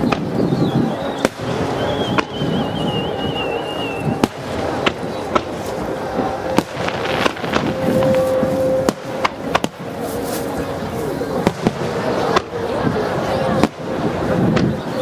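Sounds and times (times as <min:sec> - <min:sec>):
firework whistle: 0:00.0 - 0:12.5
fireworks bangs: 0:00.0 - 0:15.0.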